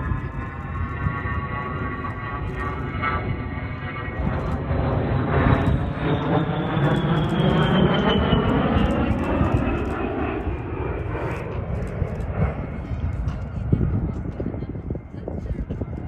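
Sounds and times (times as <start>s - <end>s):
jet engines whining passing by: 0.0s - 16.0s.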